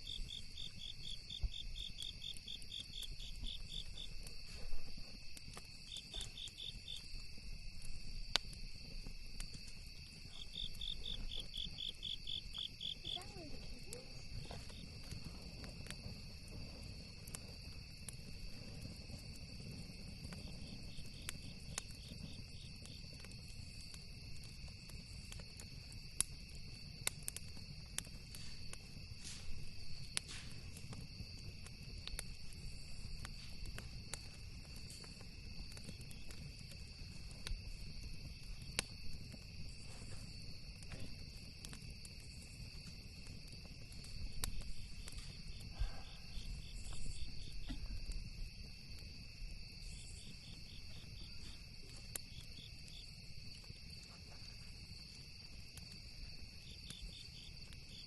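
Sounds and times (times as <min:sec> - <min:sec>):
campfire crackling and popping: 0:00.0 - 0:58.0
crickets chirring: 0:00.0 - 0:58.0.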